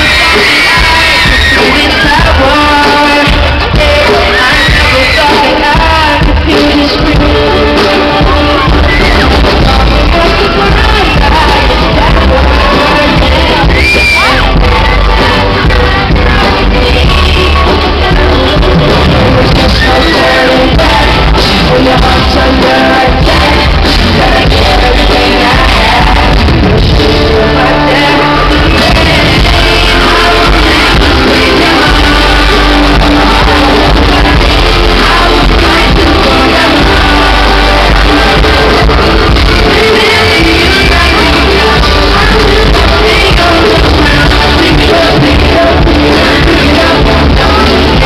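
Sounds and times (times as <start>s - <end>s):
fans shouting: 0.0s - 48.0s
live pop song with male singer: 0.0s - 48.0s.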